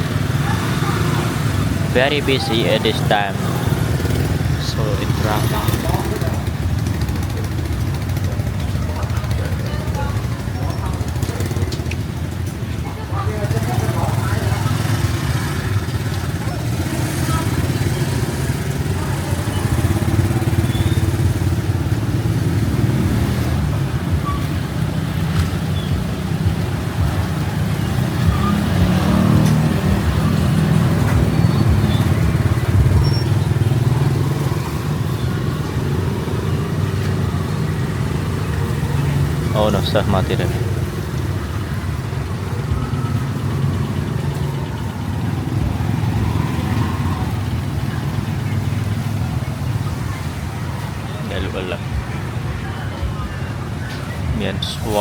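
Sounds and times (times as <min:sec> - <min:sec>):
motorbike engines rumbling: 0:00.0 - 0:55.0.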